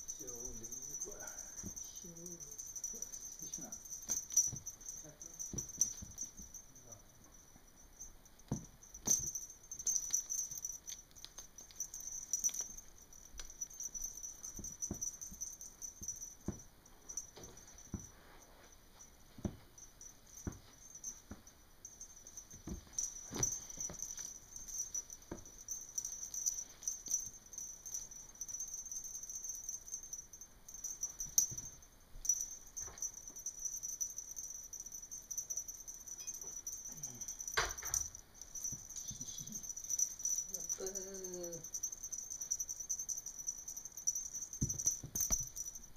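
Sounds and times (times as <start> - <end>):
feather wand toy rattling: 0.0 - 7.1, 7.7 - 19.0, 19.8 - 45.9.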